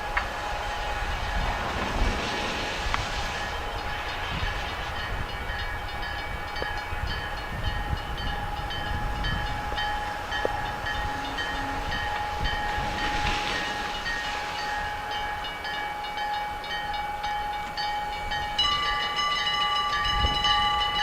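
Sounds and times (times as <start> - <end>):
diesel locomotive rumbling: 0.0 - 21.0
railroad crossing bell dinging: 0.0 - 21.0.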